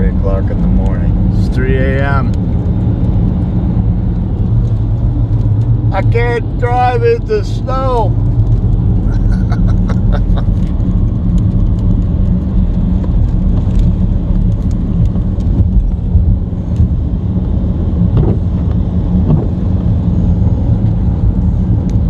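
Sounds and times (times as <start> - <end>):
road noise: 0.0 - 22.0
vehicle engine rumble: 0.0 - 22.0.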